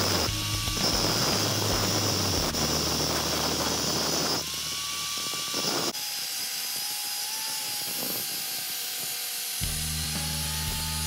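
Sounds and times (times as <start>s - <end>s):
angle grinder cutting metal rod: 0.0s - 11.0s.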